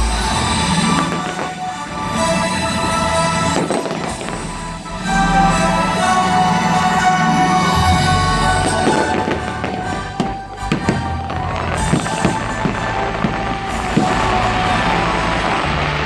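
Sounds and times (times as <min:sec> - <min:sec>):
fireworks bangs: 0:00.0 - 0:16.0
loud show music: 0:00.0 - 0:16.0.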